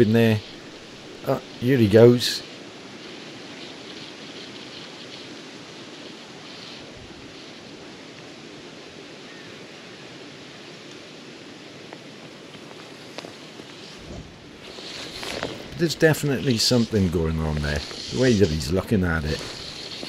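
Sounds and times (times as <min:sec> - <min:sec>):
soft hiss of air and water: 0:00.0 - 0:20.0.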